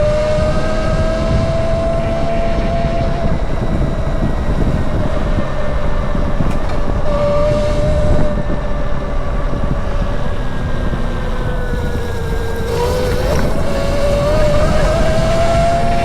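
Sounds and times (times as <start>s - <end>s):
electric motorcycle motor whining: 0.0s - 16.0s
wind rumble on microphone: 0.0s - 16.0s.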